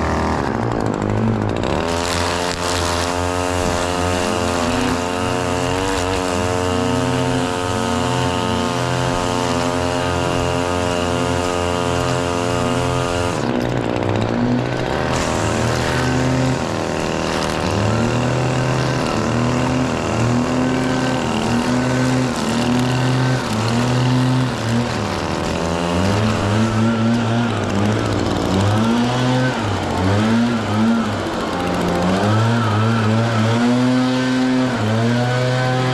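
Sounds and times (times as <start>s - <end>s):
string trimmer engine revving: 0.0s - 35.9s.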